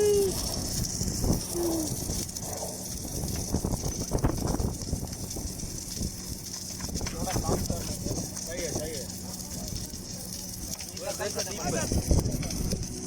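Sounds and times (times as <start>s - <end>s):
welding arc crackling: 0.0s - 13.0s
welding hiss and low rumble: 0.0s - 13.0s.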